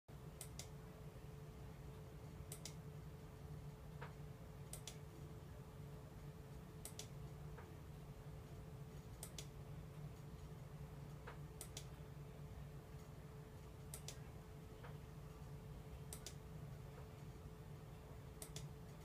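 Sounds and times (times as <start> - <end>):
low steady hum: 0.1 - 19.0.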